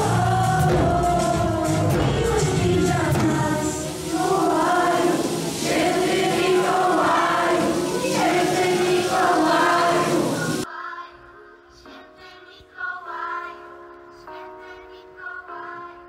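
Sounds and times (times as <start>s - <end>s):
children's choir singing: 0.0s - 16.0s
musical backing: 0.0s - 16.0s.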